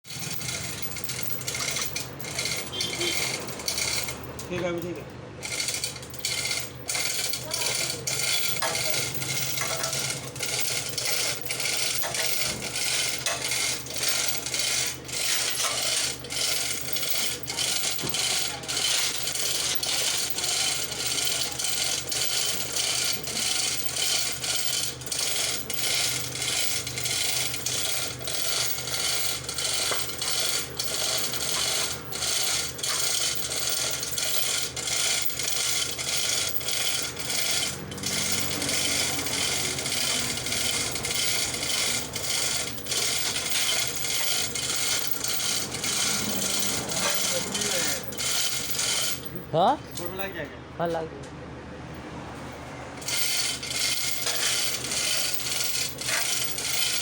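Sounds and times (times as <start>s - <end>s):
metal ratchet clicking: 0.1s - 50.3s, 53.0s - 57.0s.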